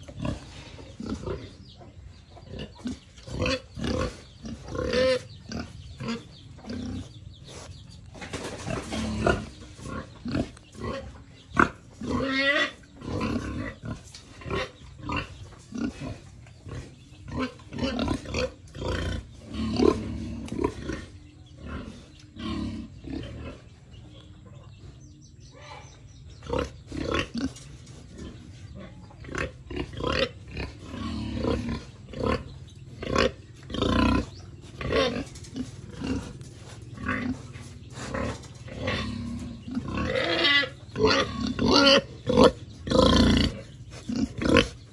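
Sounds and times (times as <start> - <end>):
pigs grunting and squealing: 0.0 - 24.5, 25.4 - 44.9.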